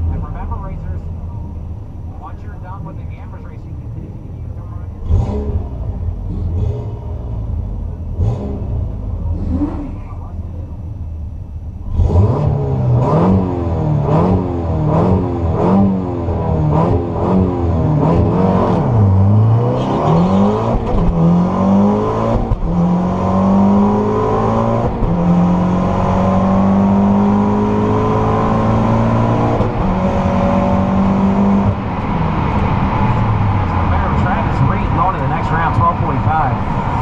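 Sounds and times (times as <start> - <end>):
car engine revving and accelerating: 2.9 - 10.3, 11.8 - 37.0.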